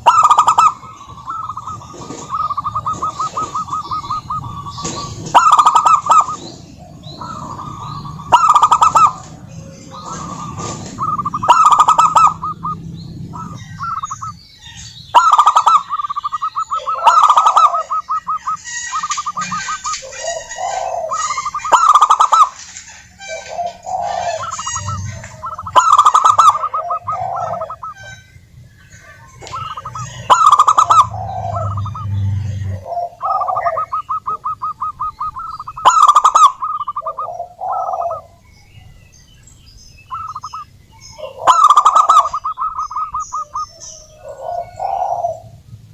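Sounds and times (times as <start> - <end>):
doves cooing: 0.0 - 39.0, 39.9 - 45.9.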